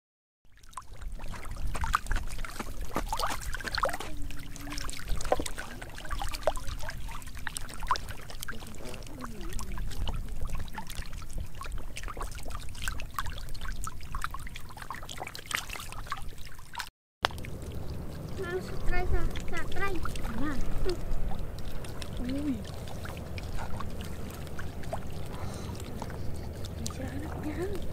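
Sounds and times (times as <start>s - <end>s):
fish splashing in water: 0.5s - 27.9s.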